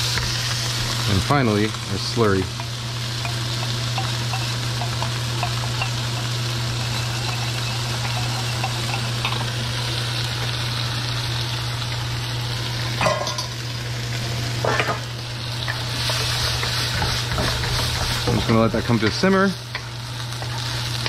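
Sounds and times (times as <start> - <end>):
sauce sizzling in a wok: 0.0 - 21.0.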